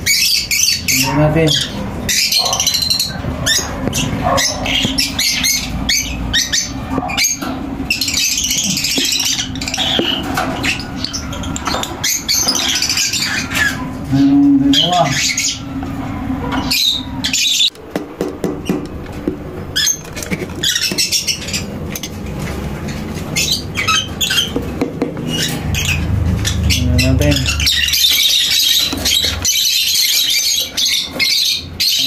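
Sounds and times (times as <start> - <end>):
lovebirds squawking and chirping: 0.0 - 32.0.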